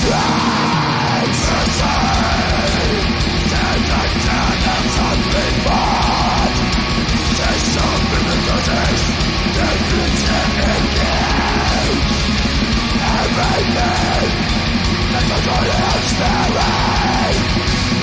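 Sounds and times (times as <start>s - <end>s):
drums and bass: 0.0s - 18.0s
harsh yelled vocals: 0.0s - 18.0s
heavy metal song: 0.0s - 18.0s.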